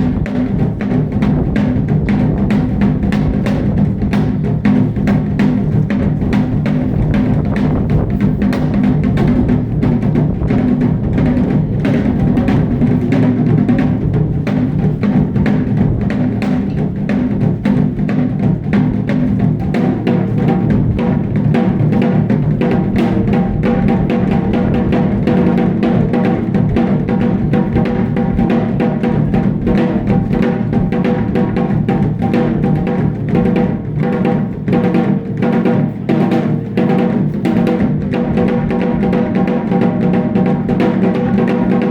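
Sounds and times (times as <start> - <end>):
fast drumming: 0.0 - 41.9.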